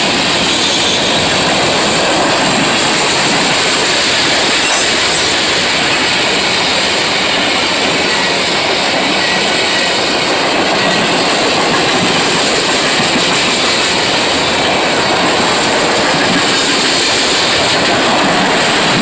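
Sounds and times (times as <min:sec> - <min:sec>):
freight train wheels on track: 0:00.0 - 0:19.0.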